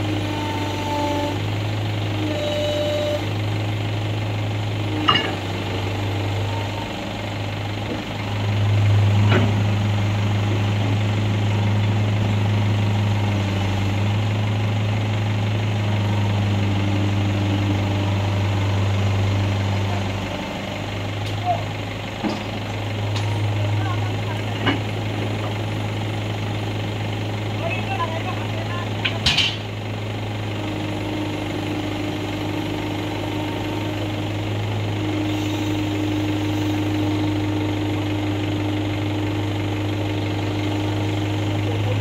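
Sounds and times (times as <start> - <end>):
excavator diesel engine droning: 0.0 - 42.0.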